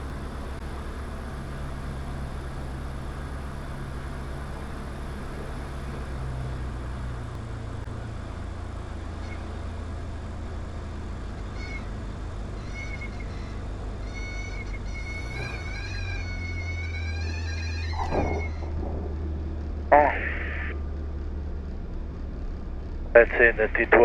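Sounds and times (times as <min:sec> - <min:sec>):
light aircraft engine running: 0:00.0 - 0:24.0.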